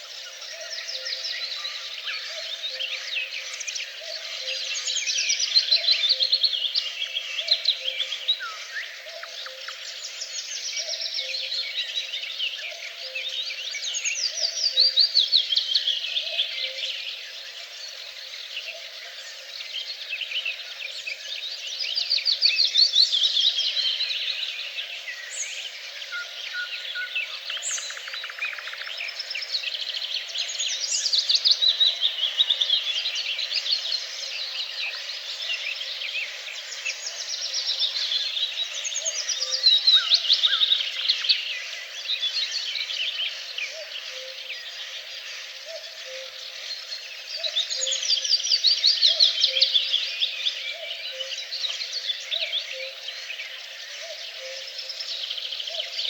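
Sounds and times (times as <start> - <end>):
songbirds trilling and chirping: 0.0 - 56.0.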